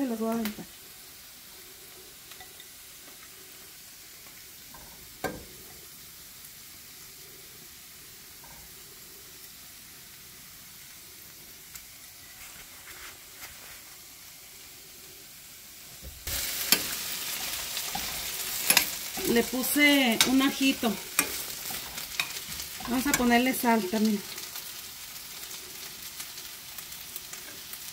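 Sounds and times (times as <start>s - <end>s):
chile strips sizzling in oil: 0.0s - 27.9s.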